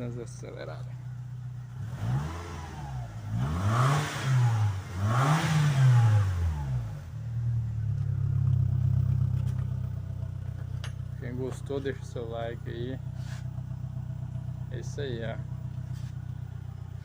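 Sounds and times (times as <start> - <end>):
car engine revving: 1.1 - 17.0.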